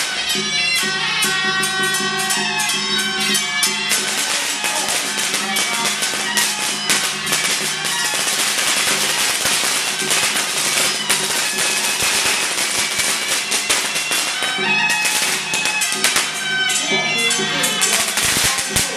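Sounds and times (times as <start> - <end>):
firecrackers crackling: 0.0 - 18.9.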